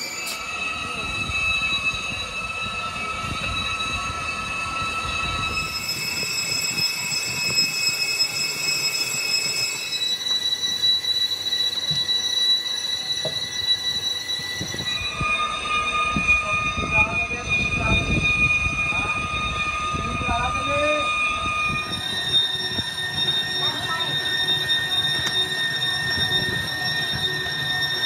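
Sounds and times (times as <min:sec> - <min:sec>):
metal-on-metal squeal: 0:00.0 - 0:28.0.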